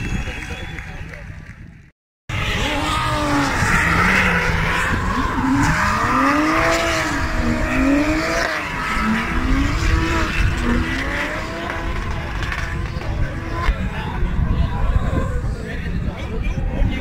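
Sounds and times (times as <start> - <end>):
car engines revving: 2.3 - 17.0.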